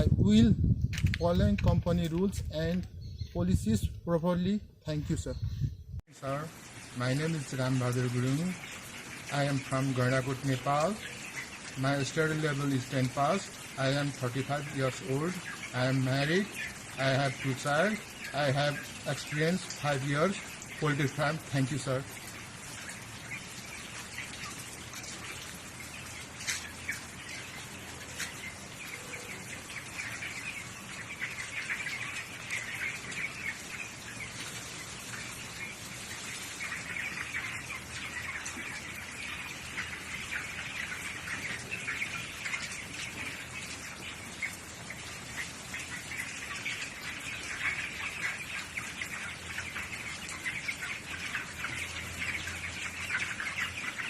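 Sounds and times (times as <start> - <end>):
poultry chirping and peeping: 0.0 - 54.0.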